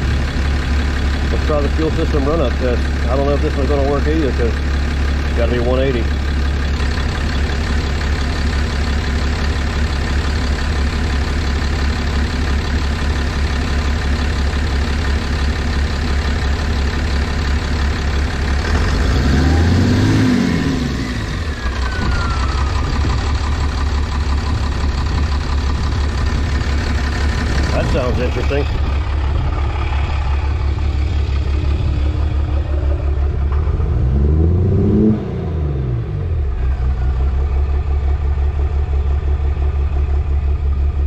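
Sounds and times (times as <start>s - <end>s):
diesel engine idling and revving: 0.0s - 41.0s.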